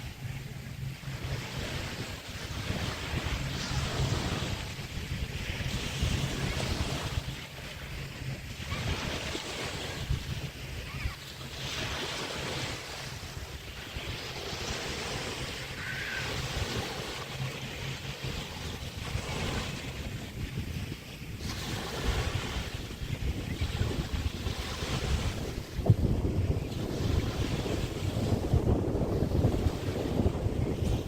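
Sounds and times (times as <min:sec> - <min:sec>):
waves washing onto beach: 0:00.0 - 0:31.0
wind rumbling on microphone: 0:00.0 - 0:31.0.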